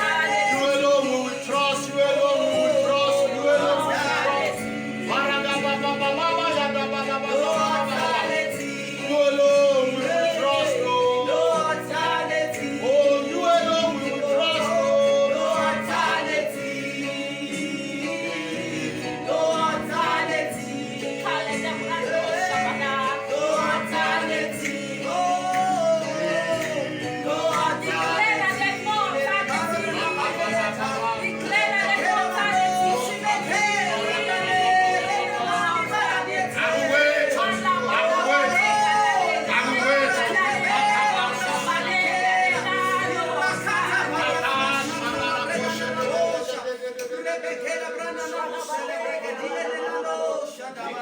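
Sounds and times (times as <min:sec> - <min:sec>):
instrumental accompaniment: 0:00.0 - 0:46.4
gospel singing: 0:00.0 - 0:51.0.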